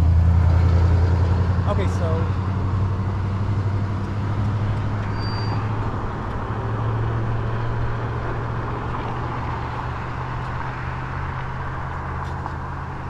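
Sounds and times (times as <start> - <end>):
tyres on pavement: 0.6 - 13.0.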